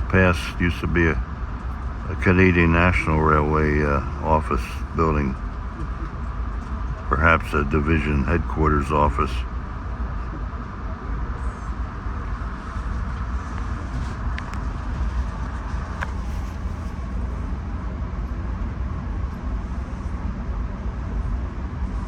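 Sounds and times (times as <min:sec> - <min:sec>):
train rumble and hiss: 0:00.0 - 0:22.0.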